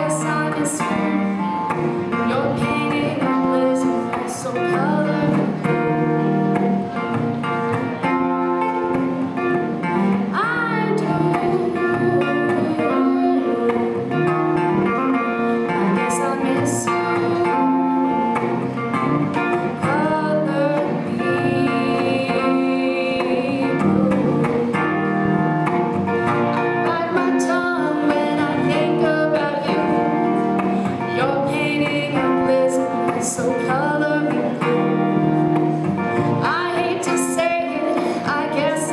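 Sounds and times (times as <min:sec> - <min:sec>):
person singing: 0:00.0 - 0:06.4, 0:09.4 - 0:18.7, 0:19.3 - 0:25.8, 0:26.5 - 0:38.9
guitar: 0:00.0 - 0:38.9.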